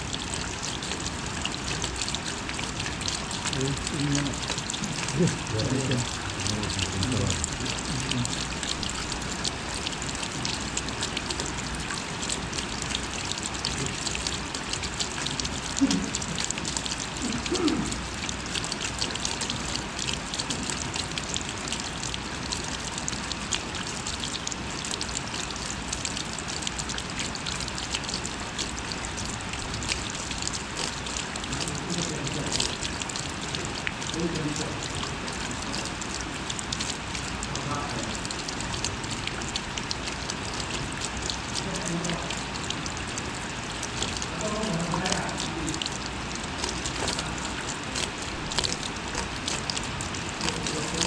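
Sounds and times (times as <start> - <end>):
light rain pattering: 0.0 - 51.0.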